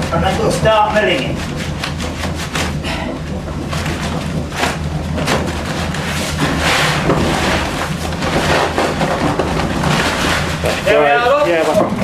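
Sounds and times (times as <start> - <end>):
milling machinery rumbling: 0.0 - 12.0.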